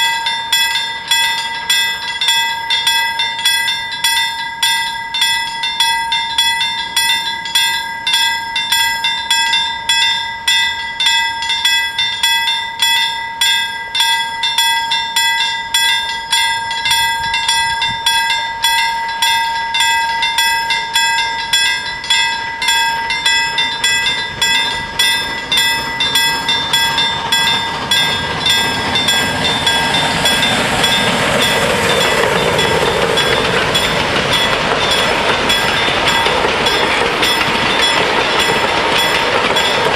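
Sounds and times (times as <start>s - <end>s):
level-crossing bells ringing: 0.0s - 39.9s
steam train rolling past: 0.0s - 39.9s.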